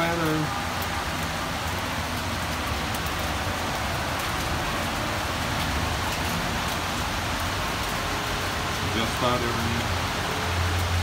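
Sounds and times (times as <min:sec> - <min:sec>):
light ticks of raindrops: 0:00.0 - 0:11.0
rain hissing: 0:00.0 - 0:11.0.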